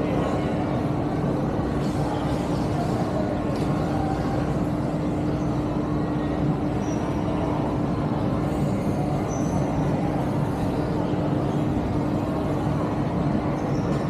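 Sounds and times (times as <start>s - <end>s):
shopping mall din: 0.0s - 14.0s.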